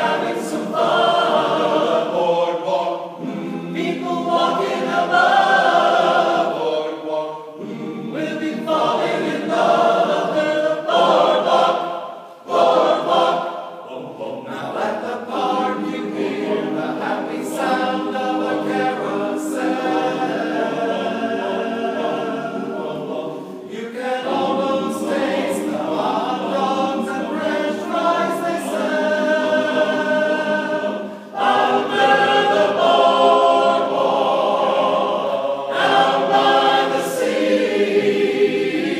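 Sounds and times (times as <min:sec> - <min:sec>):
men's chorus singing: 0:00.0 - 0:38.9.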